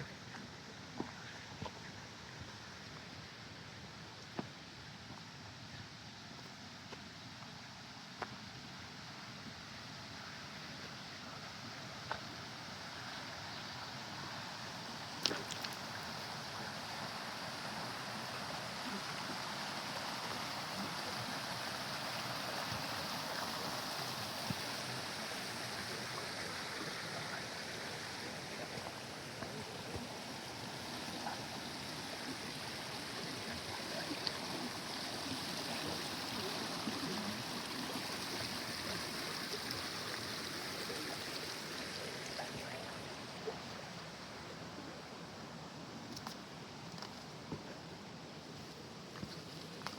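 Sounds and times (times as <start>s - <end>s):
stream running over rocks: 0.0s - 49.9s.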